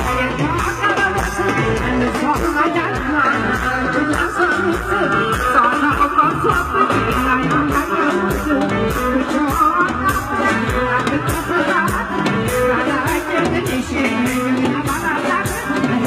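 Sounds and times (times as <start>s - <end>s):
festival music with beat: 0.0s - 16.0s
person singing: 0.0s - 16.0s.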